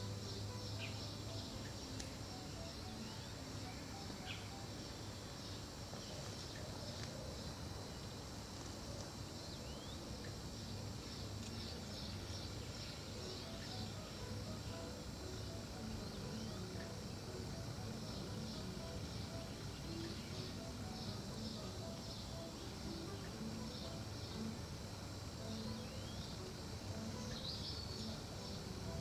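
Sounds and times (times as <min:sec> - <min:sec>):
insects chirping: 0:00.0 - 0:29.0
low steady hum: 0:00.0 - 0:29.0.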